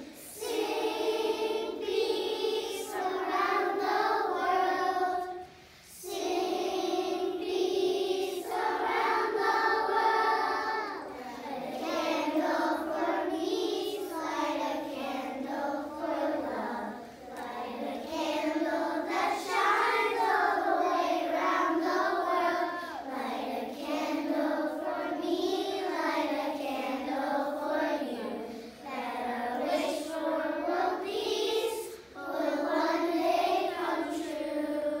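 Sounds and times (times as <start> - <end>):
children singing in unison: 0.0 - 35.0.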